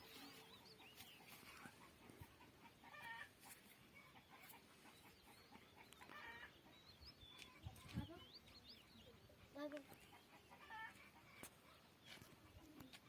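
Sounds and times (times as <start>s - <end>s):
chicken clucking: 0.0s - 8.2s, 9.6s - 13.0s
small birds chirping: 0.0s - 13.0s.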